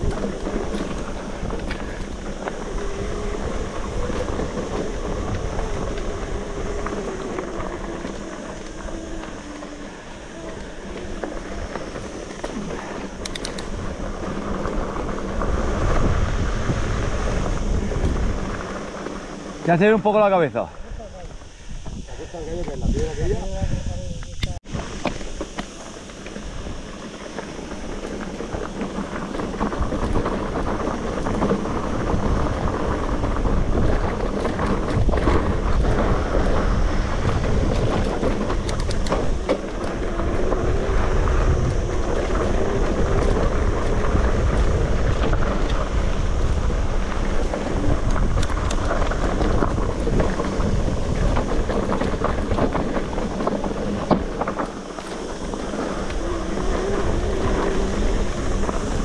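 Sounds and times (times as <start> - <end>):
bike rattling clicks: 0.0 - 21.6, 24.1 - 59.0
bike tyre noise: 0.0 - 59.0
wind rumbling on microphone: 0.0 - 59.0.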